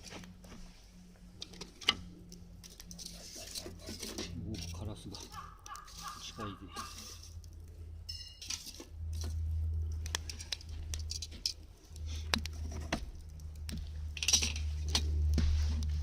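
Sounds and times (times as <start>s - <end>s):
campfire crackling and popping: 1.3s - 16.0s.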